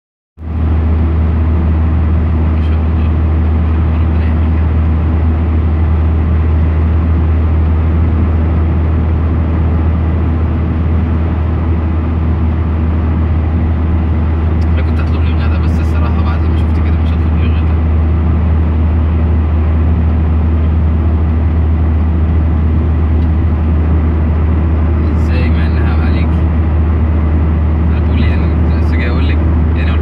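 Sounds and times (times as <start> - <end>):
car interior road rumble: 0.4 - 30.0.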